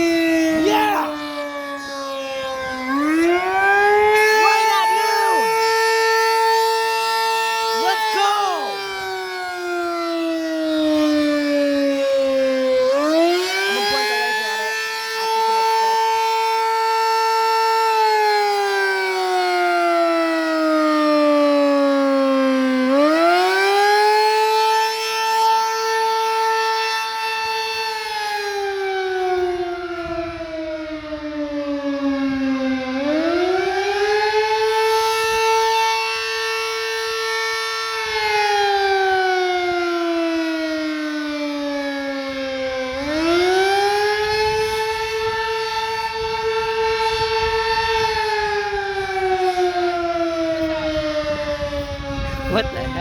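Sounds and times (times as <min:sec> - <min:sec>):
warning siren wailing: 0:00.0 - 0:53.0.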